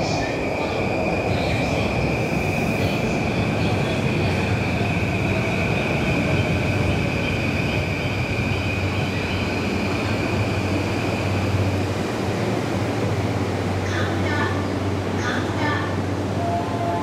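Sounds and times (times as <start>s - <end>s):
electric train rumble: 0.0s - 17.0s
high whine of train: 0.0s - 17.0s.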